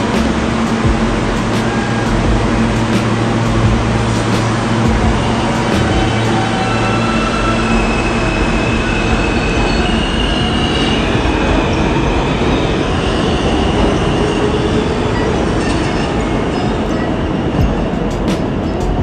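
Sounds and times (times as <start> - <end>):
high wheel squeal: 0.0 - 19.0
subway train rumble: 0.0 - 19.0.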